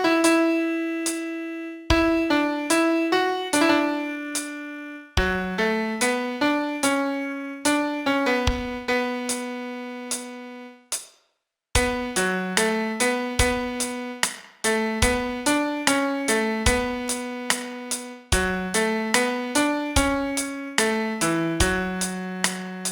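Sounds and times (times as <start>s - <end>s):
solo piano melody: 0.0s - 10.8s, 11.8s - 22.9s.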